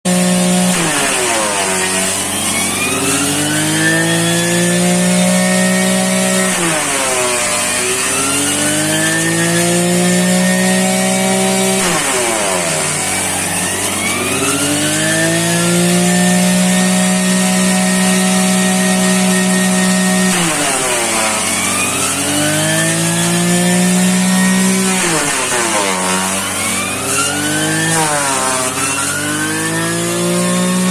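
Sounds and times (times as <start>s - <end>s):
lawn mower engine running: 0.0s - 30.9s.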